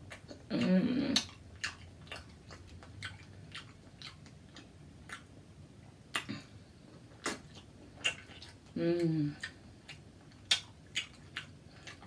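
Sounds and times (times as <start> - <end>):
person chewing wetly: 0.0 - 12.0.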